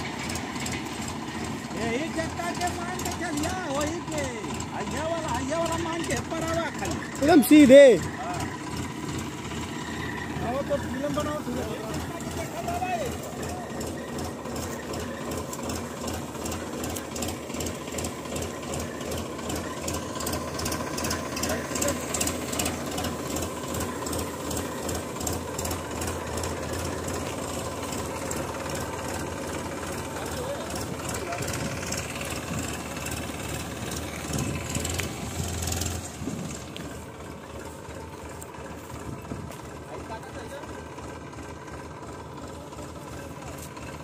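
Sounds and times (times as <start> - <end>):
combine harvester din: 0.0 - 44.0
rhythmic mechanical clatter: 0.0 - 44.0
tractor engine hum: 0.0 - 44.0.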